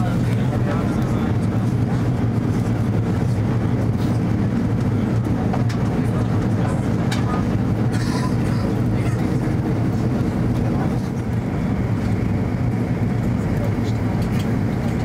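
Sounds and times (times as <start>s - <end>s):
jet engine cabin drone: 0.0s - 15.0s.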